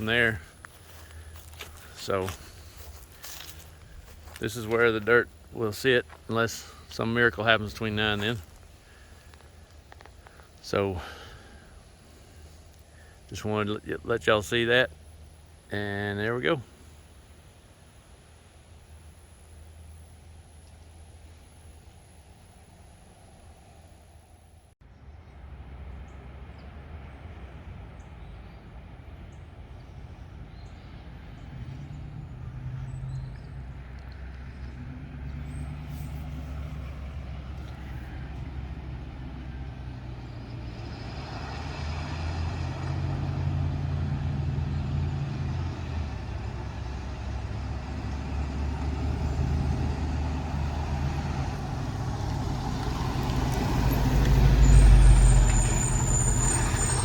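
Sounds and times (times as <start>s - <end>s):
diesel truck engine rumbling: 0.0s - 17.6s, 25.2s - 57.0s.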